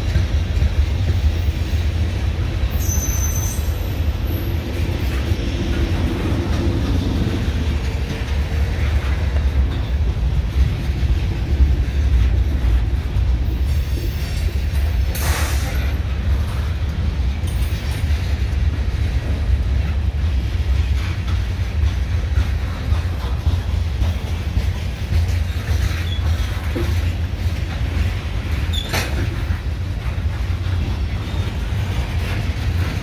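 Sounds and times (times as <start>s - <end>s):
freight train wheels on rail: 0.0s - 33.0s.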